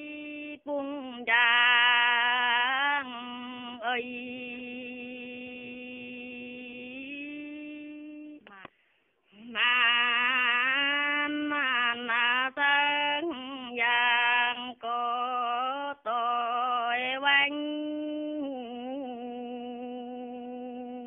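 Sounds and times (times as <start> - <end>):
woman singing unaccompanied: 0.0 - 8.7, 9.3 - 21.0.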